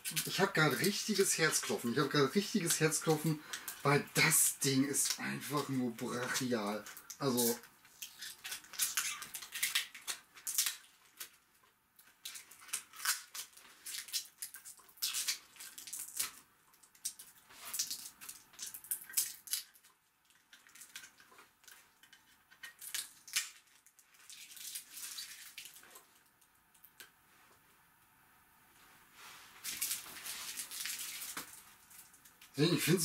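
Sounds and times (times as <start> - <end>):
packaging rustling and crinkling: 0.0 - 26.3, 29.2 - 32.4.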